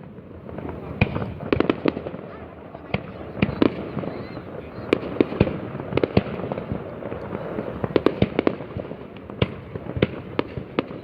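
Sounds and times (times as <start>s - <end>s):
distant fireworks rumble: 0.0s - 11.0s
fireworks bangs: 0.0s - 11.0s.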